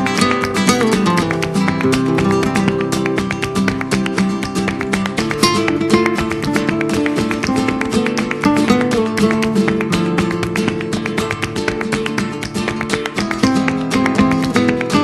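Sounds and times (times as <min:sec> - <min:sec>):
flamenco acoustic guitar: 0:00.0 - 0:15.0.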